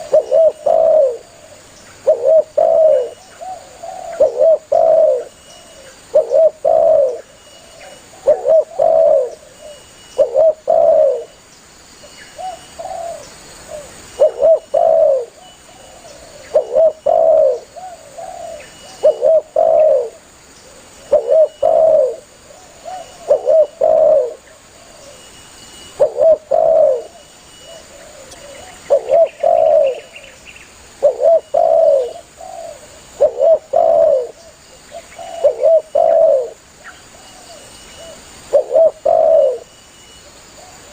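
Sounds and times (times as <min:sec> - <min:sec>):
dove cooing: 0:00.0 - 0:11.4, 0:12.4 - 0:30.4, 0:31.0 - 0:39.7.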